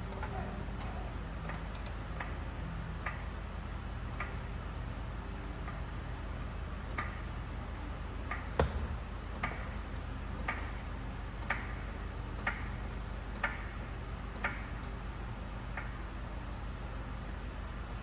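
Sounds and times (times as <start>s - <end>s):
steady low hum: 3.5s - 18.0s.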